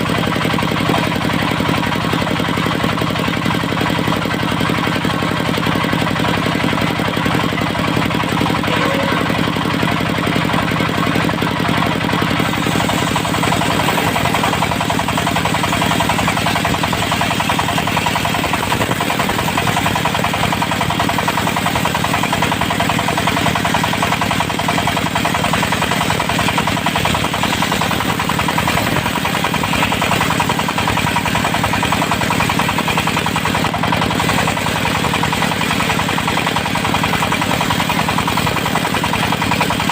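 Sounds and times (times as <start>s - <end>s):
sawmill diesel engine running: 0.0s - 39.9s.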